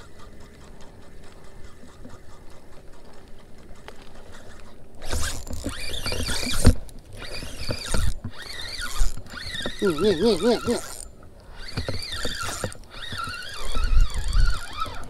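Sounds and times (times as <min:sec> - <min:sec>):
fishing reel gears whirring: 0:00.0 - 0:15.0.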